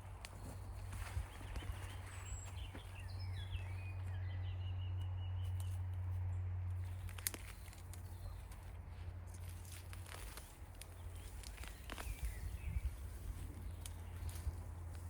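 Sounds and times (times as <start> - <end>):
birds chirping: 0.0 - 9.5, 10.1 - 15.0.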